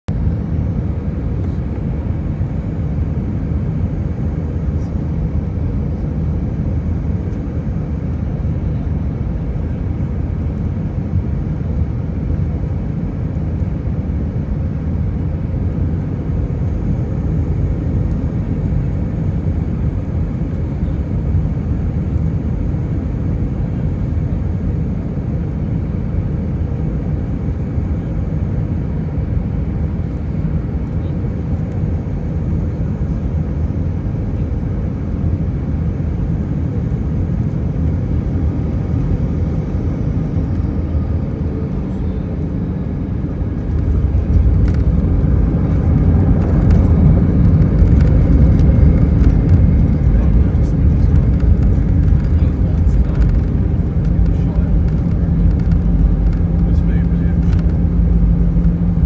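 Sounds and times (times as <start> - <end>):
airliner cabin roar: 0.1 - 59.0.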